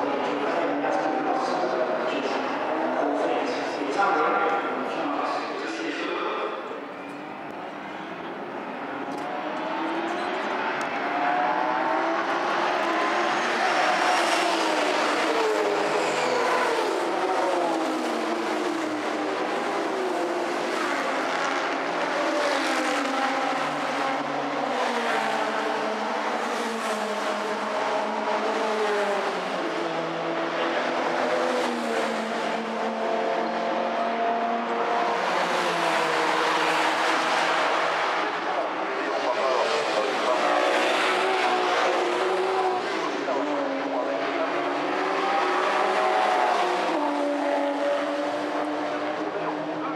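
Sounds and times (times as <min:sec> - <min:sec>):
racing car engines revving: 0:00.0 - 0:49.9.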